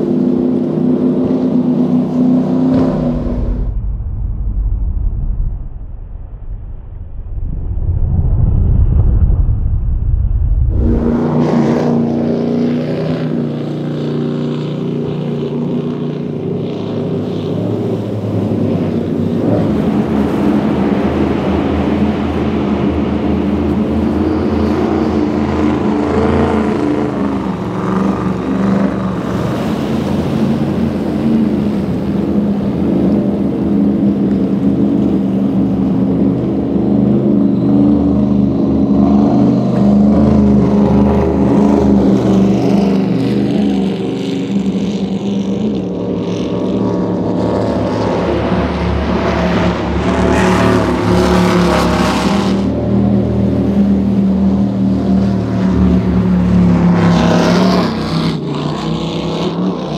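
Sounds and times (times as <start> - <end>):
powerboat engines droning: 0.0 - 3.7, 10.8 - 59.9.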